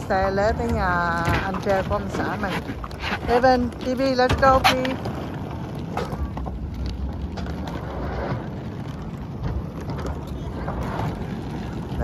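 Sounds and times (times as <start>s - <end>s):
suitcase wheels rattling on walkway: 0.0s - 12.0s.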